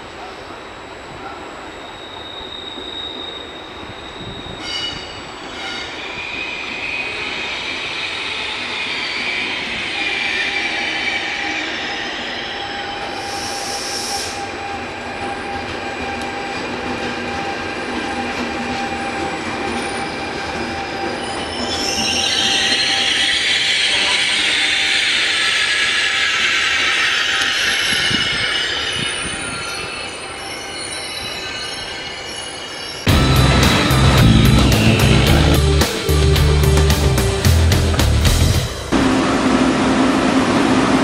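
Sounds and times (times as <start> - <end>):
electric train whine: 0.0 - 41.0
wheels squealing while braking: 1.8 - 35.6.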